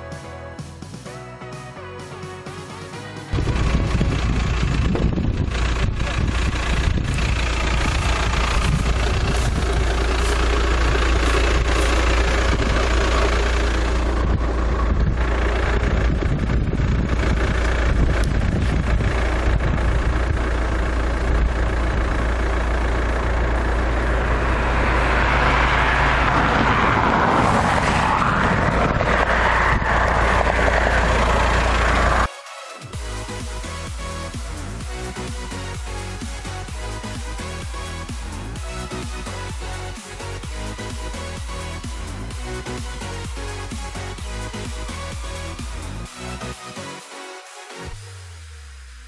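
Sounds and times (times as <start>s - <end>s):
van road and engine noise: 0.0s - 49.0s.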